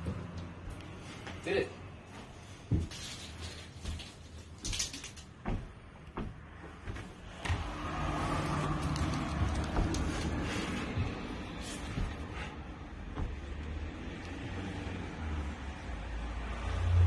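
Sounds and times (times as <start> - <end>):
low outdoor rumble: 1.8 - 17.0.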